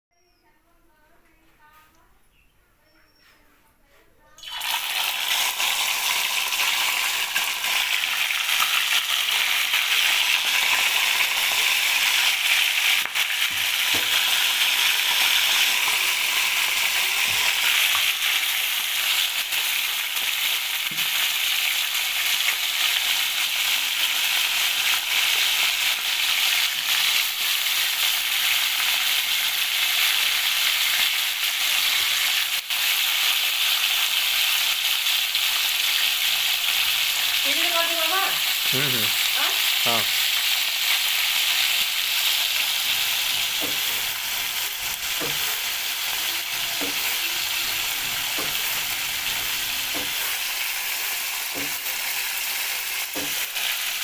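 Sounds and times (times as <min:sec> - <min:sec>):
fish sizzling in hot oil: 0:04.4 - 0:54.0.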